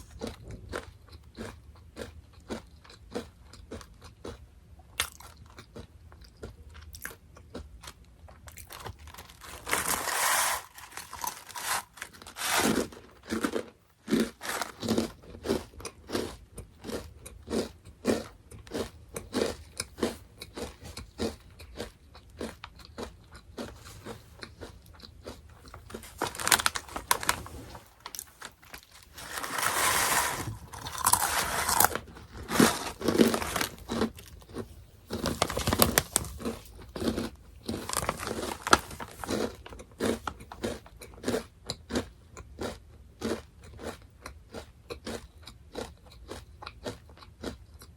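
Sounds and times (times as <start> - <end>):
crunching and chewing snack: 0.0 - 47.9.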